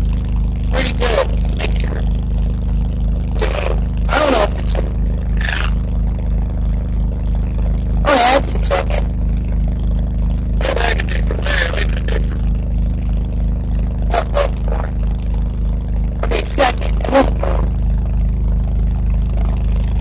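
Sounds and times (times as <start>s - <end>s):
backhoe engine running: 0.0s - 20.0s.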